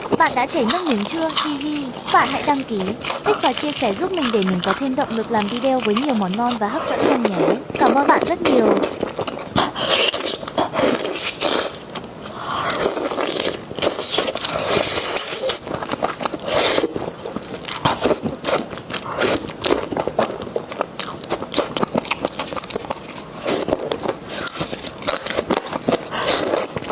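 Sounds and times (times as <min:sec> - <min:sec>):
close chewing of noodles: 0:00.0 - 0:26.9
food crunching: 0:00.0 - 0:26.9.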